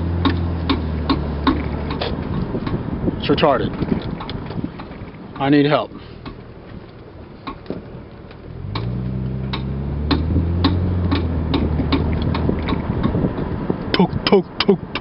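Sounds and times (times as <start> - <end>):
sharp clicking from car: 0.0 - 2.9, 3.5 - 15.0
car engine accelerating: 0.0 - 4.7, 6.2 - 15.0.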